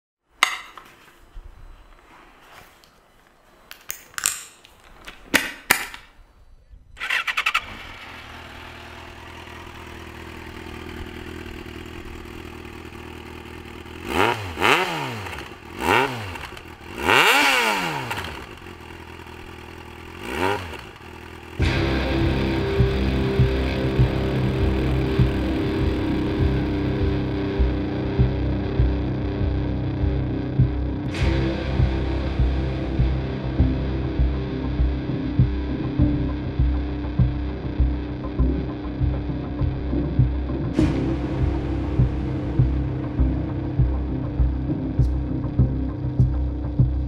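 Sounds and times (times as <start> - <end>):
motorcycle engine idling and revving: 7.0 - 47.0.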